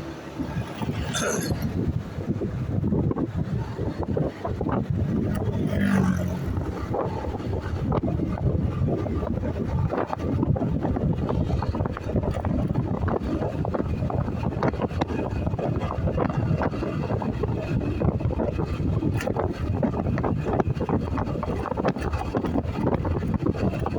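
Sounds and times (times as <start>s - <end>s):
motorcycle ride noise: 0.0s - 23.9s
wind buffeting microphone: 0.0s - 23.9s.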